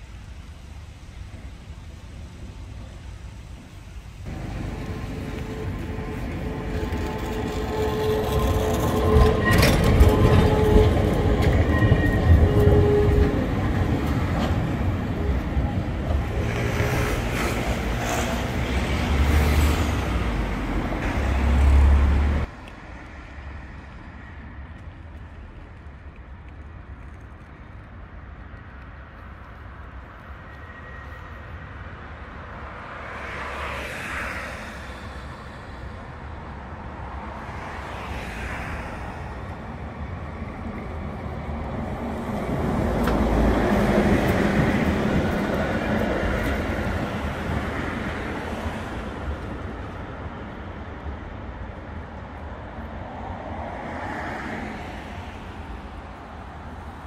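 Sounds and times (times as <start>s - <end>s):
tram wheels rumbling on rails: 0.0s - 57.0s
road vehicles passing: 0.4s - 57.0s.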